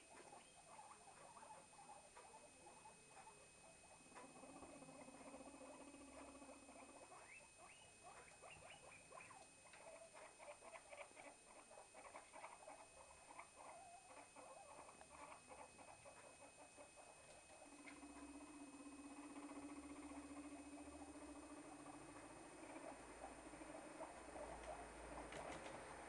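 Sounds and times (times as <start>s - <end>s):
small rodents squeaking: 0.0s - 26.0s.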